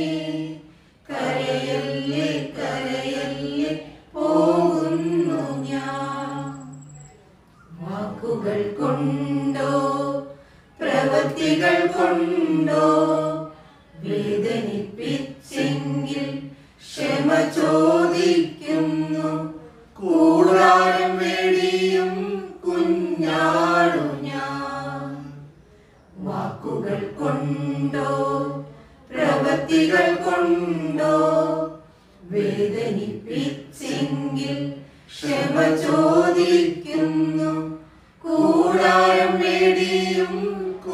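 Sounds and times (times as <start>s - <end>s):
small choir singing unaccompanied: 0.0s - 7.0s, 7.6s - 40.9s.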